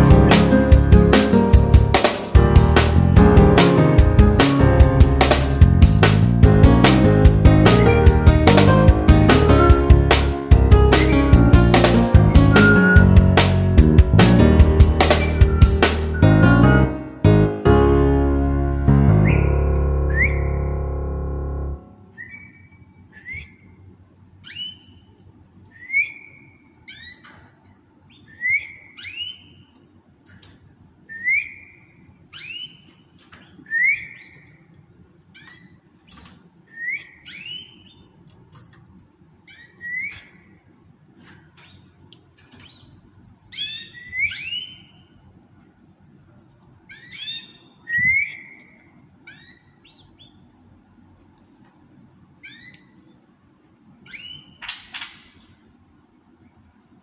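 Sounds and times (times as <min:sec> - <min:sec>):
caged birds chirping: 0:00.0 - 0:16.7, 0:19.1 - 0:20.7, 0:21.9 - 0:57.0.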